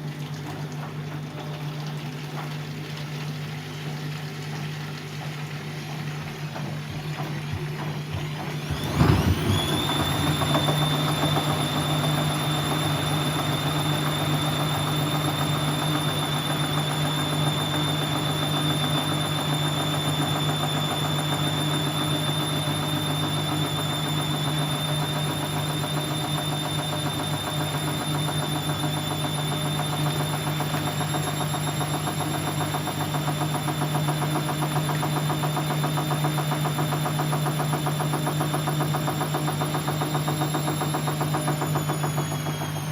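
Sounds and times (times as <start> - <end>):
washing machine spinning: 0.0 - 42.9.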